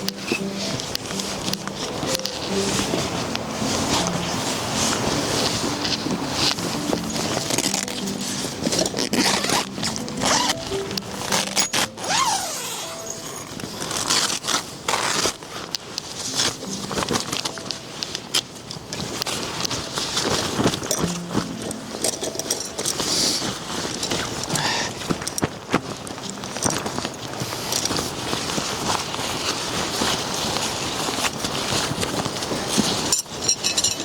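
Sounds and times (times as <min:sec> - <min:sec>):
faint background music: 0:00.0 - 0:34.0.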